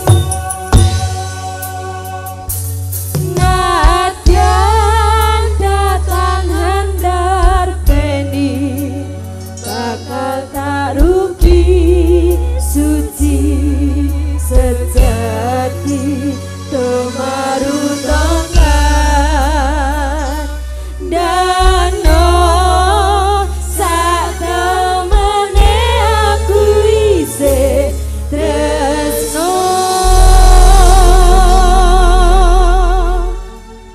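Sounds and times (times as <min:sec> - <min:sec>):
women singing with vibrato: 0:00.0 - 0:33.6
gamelan and band accompaniment: 0:00.0 - 0:33.9.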